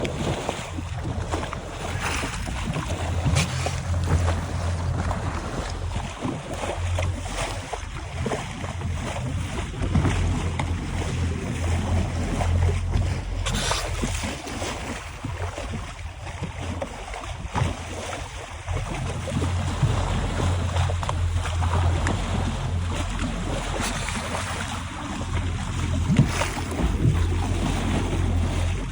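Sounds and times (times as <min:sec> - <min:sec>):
waves and water hiss: 0:00.0 - 0:28.9
wind buffeting microphone: 0:00.0 - 0:28.9.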